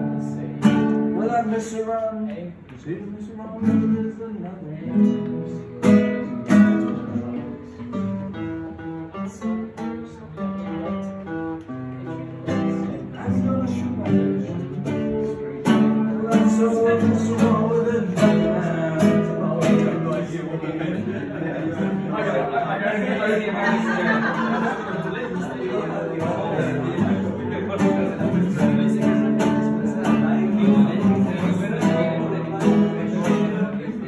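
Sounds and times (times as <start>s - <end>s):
acoustic guitar strumming and plucking: 0.0s - 34.0s.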